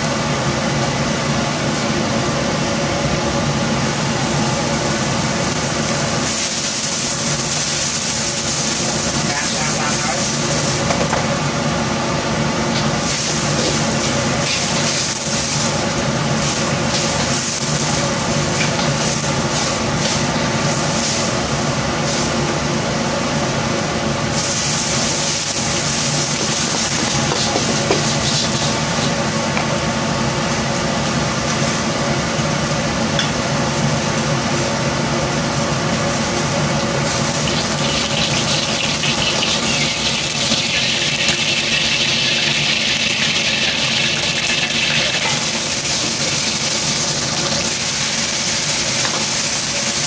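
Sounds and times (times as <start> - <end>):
gas stove mechanical drone: 0.0 - 50.0.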